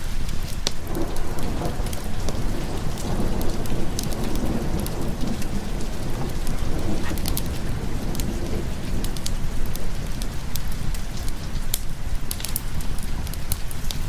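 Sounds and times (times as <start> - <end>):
heavy rain: 0.0 - 14.0
rolling thunder: 0.8 - 14.0.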